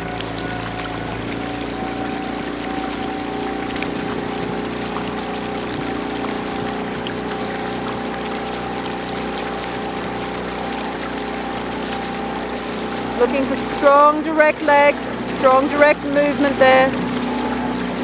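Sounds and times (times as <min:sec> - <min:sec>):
outboard motor running: 0:00.0 - 0:18.0
water rushing past hull: 0:00.0 - 0:18.0.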